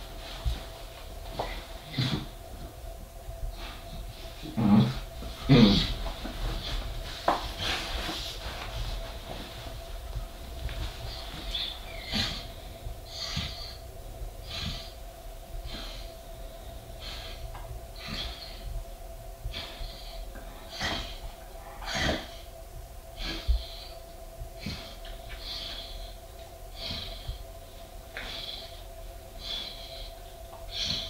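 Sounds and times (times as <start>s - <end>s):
faint steady hum: 0.0s - 31.0s
dog breathing heavily: 3.4s - 18.8s, 19.4s - 31.0s.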